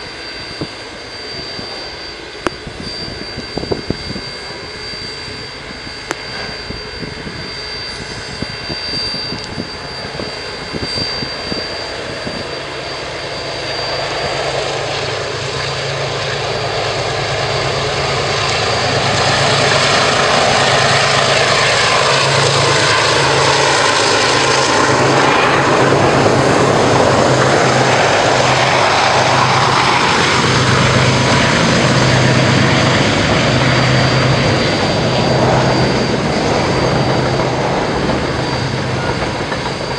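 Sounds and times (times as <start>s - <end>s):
diesel locomotive engine rumble: 0.0s - 39.9s.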